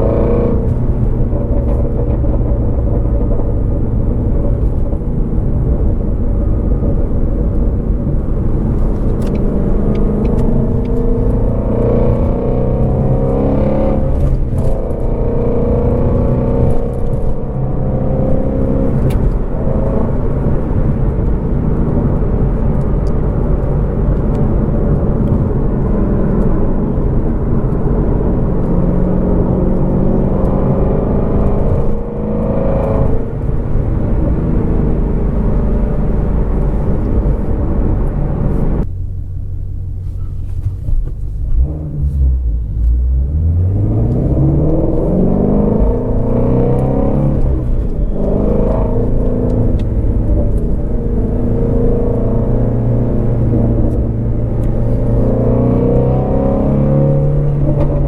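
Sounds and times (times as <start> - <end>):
car engine running: 0.0 - 58.0
exhaust crackles and pops: 0.0 - 58.0.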